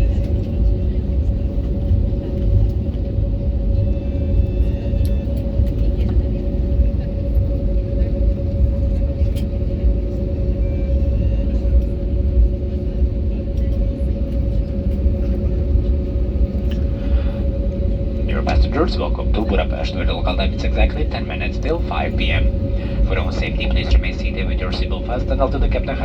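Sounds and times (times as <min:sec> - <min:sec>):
aircraft engine hum: 0:00.0 - 0:26.0.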